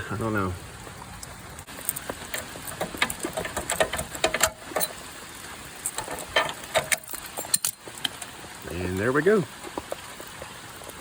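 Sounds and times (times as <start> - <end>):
rain pattering: 0.0 - 11.0
sharp drips and taps: 0.8 - 11.0.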